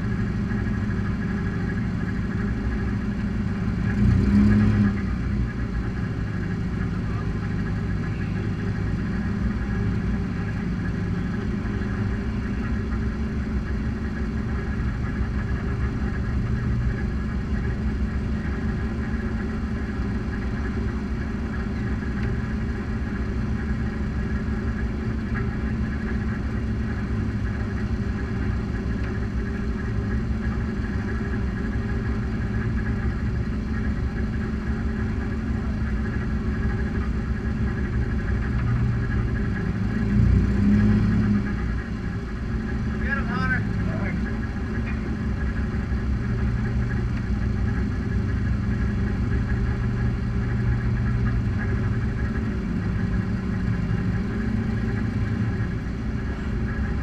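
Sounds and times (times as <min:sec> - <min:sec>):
race car engines idling: 0:00.0 - 0:57.0.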